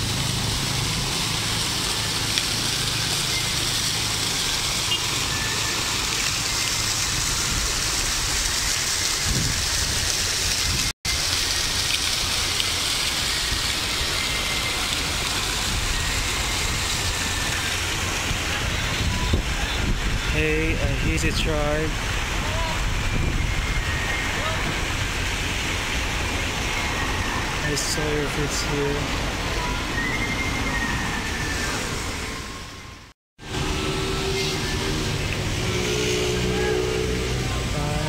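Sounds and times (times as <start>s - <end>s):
fountain water splashing: 0.0s - 38.0s.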